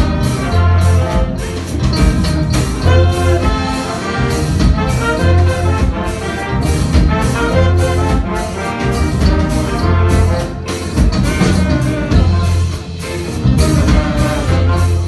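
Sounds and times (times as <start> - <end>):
live band with horn section: 0.0 - 15.0.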